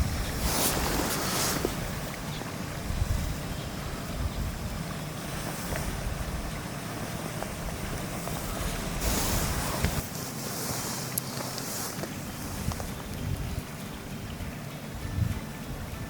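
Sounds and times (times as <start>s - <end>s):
moving water hissing: 0.0s - 16.0s
wind buffeting microphone: 0.0s - 16.0s.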